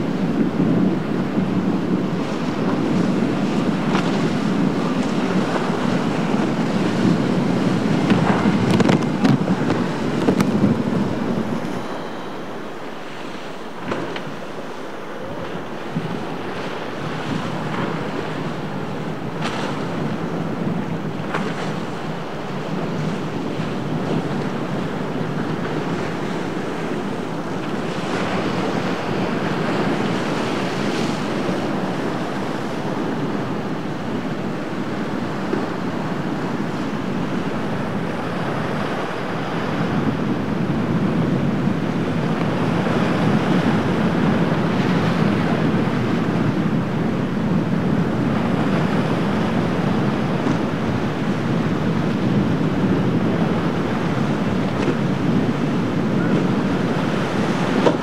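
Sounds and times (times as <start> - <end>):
breaking surf: 0.0 - 58.0
wind buffeting microphone: 0.0 - 58.0.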